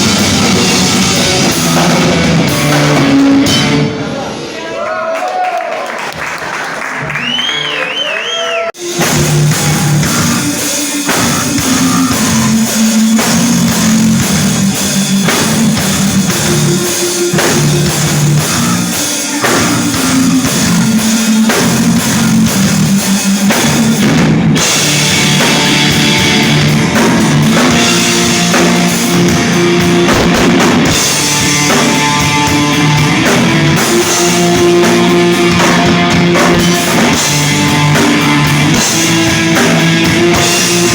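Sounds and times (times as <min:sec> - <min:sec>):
live rock band playing: 0:00.0 - 0:04.4, 0:08.8 - 0:40.9.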